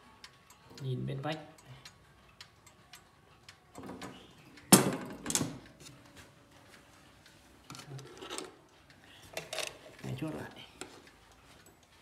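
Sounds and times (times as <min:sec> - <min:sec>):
faint clock ticking: 0:00.0 - 0:04.8, 0:05.5 - 0:12.0.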